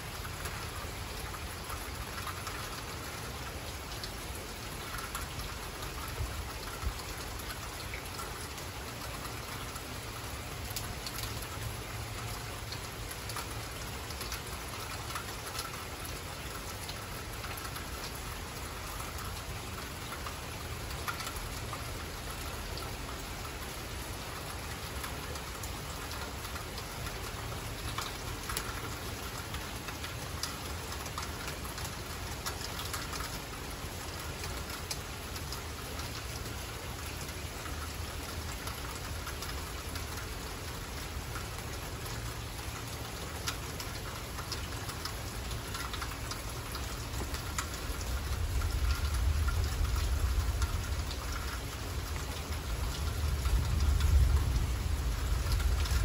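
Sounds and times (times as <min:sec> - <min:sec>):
raindrops pattering close by: 0:00.0 - 0:56.0
steady rain falling: 0:00.0 - 0:56.0.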